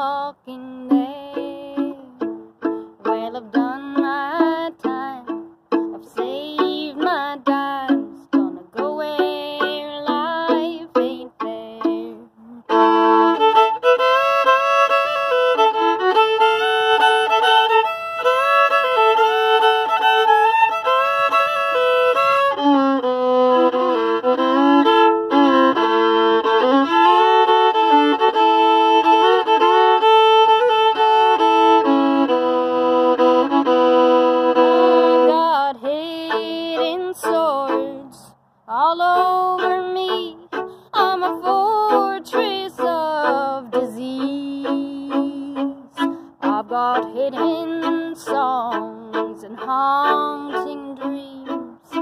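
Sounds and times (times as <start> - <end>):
solo violin playing: 0.0 - 52.0.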